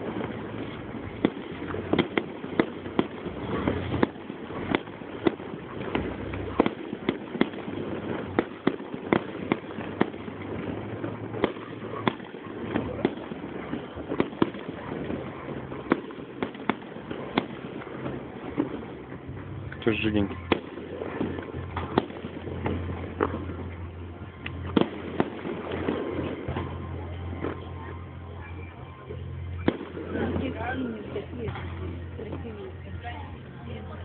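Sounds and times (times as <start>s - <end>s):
background rumble: 0.0s - 34.0s
fireworks bangs and pops: 0.0s - 34.0s.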